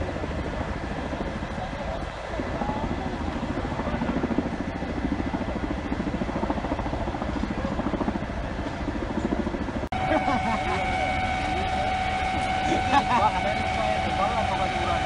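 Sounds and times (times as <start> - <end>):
helicopter engine noise: 0.0 - 15.0
helicopter rotor chopping: 0.0 - 15.0.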